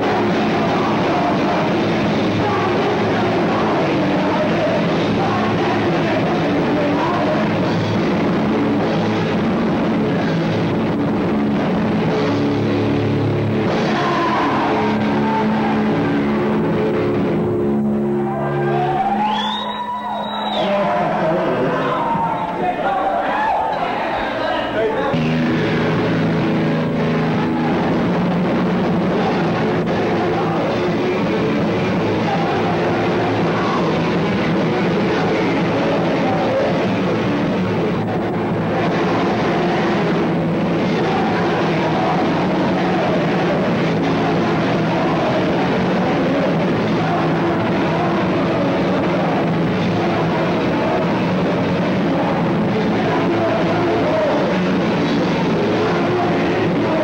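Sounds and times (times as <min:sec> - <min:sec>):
drum kit: 0:00.0 - 0:21.2, 0:25.1 - 0:57.0
electric guitar: 0:00.0 - 0:22.6, 0:25.1 - 0:57.0.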